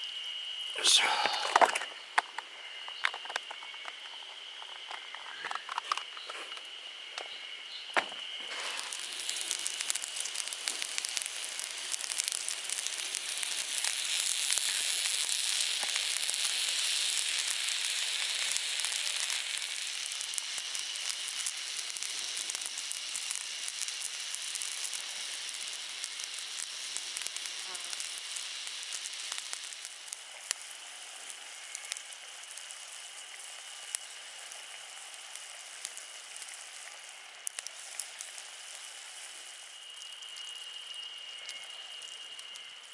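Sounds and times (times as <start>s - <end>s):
meat sizzling over campfire: 0.0s - 42.9s.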